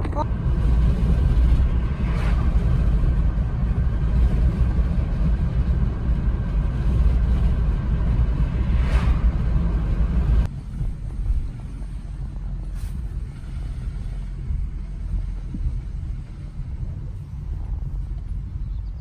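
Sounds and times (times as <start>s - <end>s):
heavy low rumble: 0.0s - 19.0s.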